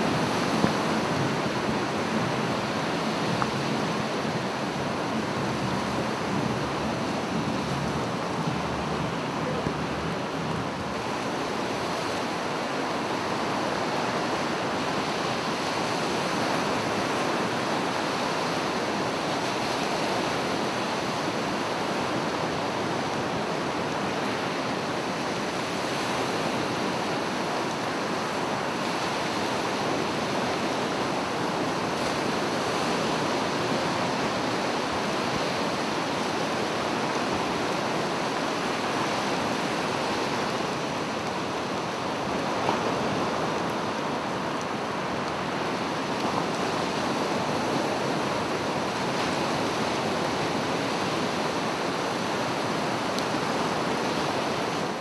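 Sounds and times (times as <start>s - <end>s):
sea surf washing onto beach: 0.0s - 55.0s
wind: 0.0s - 55.0s.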